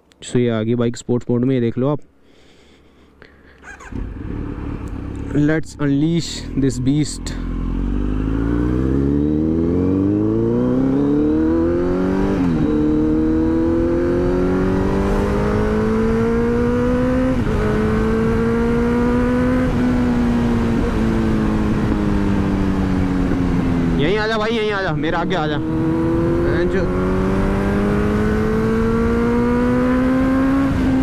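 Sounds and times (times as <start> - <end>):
motorcycle engine revving: 3.6 - 31.0.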